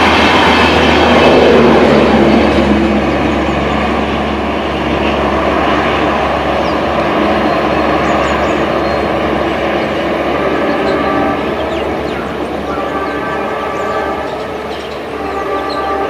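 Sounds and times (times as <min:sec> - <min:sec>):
train coaches rolling on rails: 0:00.0 - 0:16.0.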